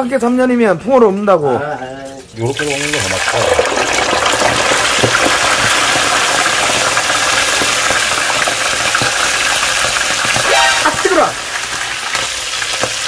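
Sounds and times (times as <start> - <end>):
hot oil sizzling and bubbling: 1.6 - 13.0.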